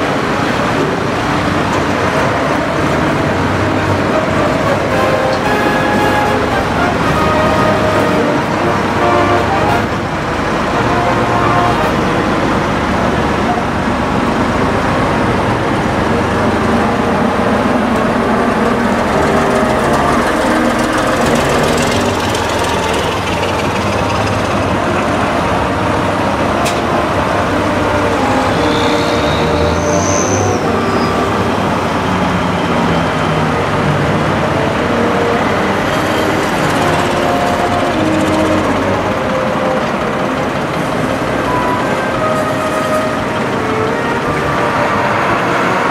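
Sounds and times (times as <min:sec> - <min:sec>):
tractor diesel engines running: 0:00.0 - 0:45.9.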